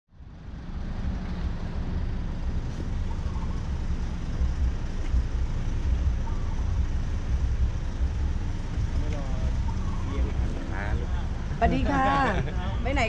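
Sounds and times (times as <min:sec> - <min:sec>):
motorcycle engine rumbling: 0:00.2 - 0:13.0.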